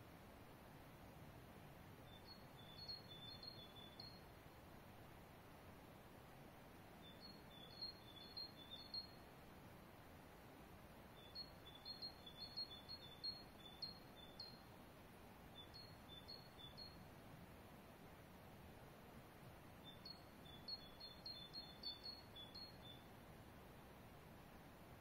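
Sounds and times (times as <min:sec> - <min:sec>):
small songbird chirping faintly: 0:02.0 - 0:25.0.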